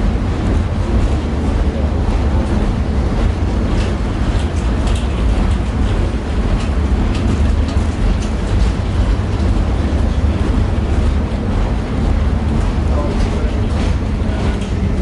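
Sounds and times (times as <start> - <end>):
tram rumbling along track: 0.0 - 15.0.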